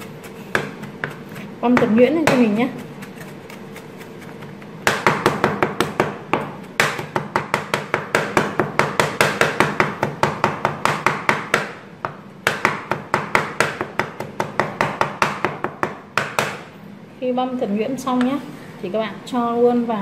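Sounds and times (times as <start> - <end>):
knife chopping on wooden board: 0.0 - 16.7.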